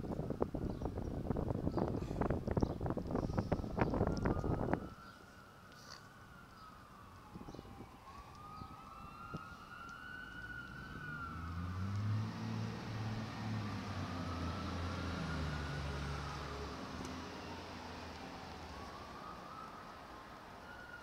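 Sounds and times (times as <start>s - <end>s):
emergency vehicle siren wailing: 0.1s - 21.0s.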